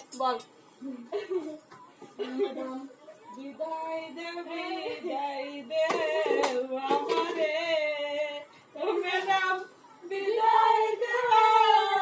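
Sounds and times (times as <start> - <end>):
woman singing unaccompanied: 2.3 - 12.0.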